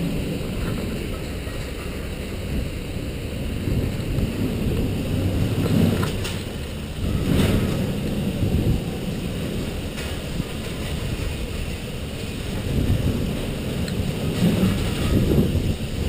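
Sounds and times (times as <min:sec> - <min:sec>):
wind rushing over microphone: 0:00.0 - 0:16.0
snowboard carving over snow: 0:02.2 - 0:16.0.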